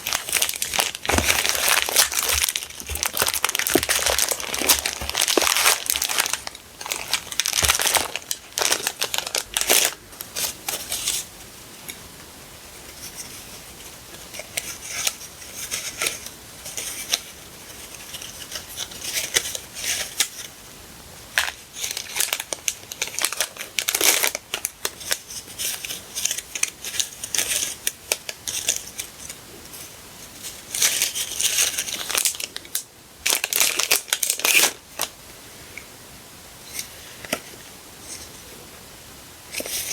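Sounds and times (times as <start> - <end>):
paper and plastic packaging rustling: 0.0 - 11.4, 12.9 - 20.6, 21.3 - 35.2.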